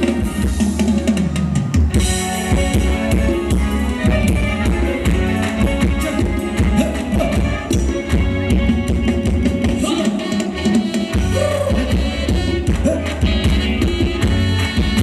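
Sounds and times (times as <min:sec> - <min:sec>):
bass: 0:00.0 - 0:15.0
dance band playing: 0:00.0 - 0:15.0
drum kit beat: 0:00.0 - 0:15.0.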